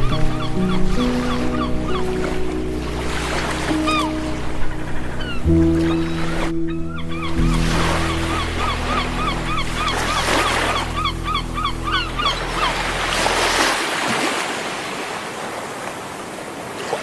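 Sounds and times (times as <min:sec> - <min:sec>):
low droning notes: 0:00.0 - 0:13.7
sea waves washing: 0:00.0 - 0:17.0.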